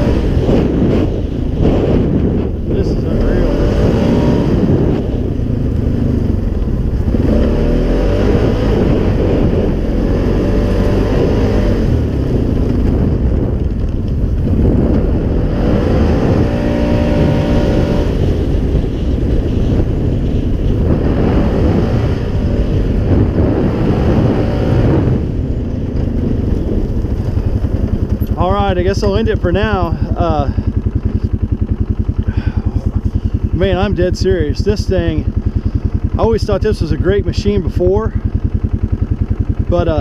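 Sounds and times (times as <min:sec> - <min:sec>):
atv engine revving: 0:00.0 - 0:40.0
wind noise on microphone: 0:00.0 - 0:40.0.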